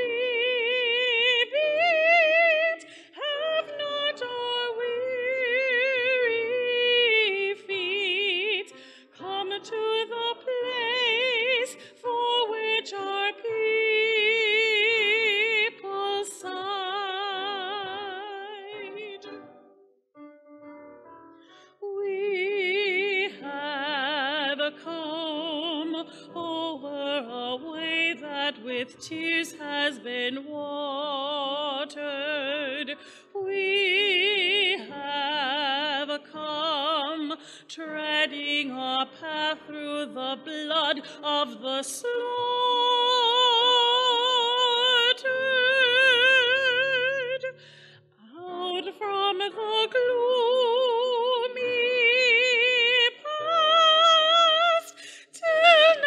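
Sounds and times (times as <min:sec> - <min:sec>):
woman singing with vibrato: 0:00.0 - 0:19.4, 0:21.8 - 0:47.6, 0:48.2 - 0:56.0.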